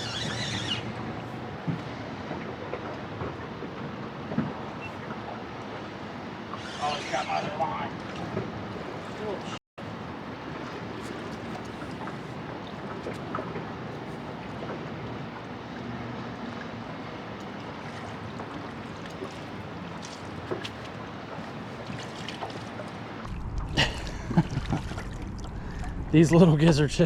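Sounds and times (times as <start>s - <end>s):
river water rushing: 0.0s - 23.2s.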